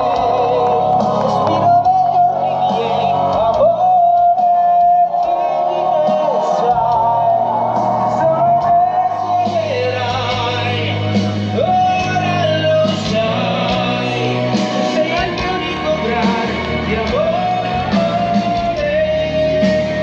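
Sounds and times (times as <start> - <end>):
steady bass line: 0.0 - 20.0.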